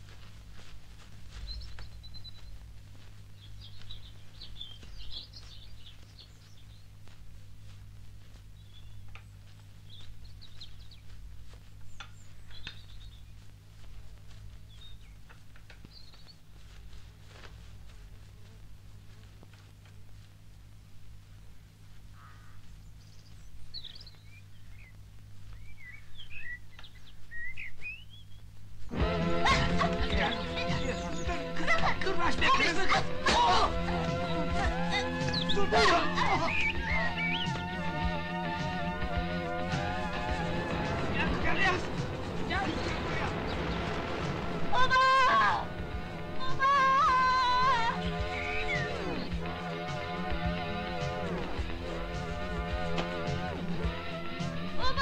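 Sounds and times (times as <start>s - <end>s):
footsteps on dry leaves: 0.0s - 55.0s
small birds chirping: 0.0s - 55.0s
steady low hum: 0.0s - 55.0s.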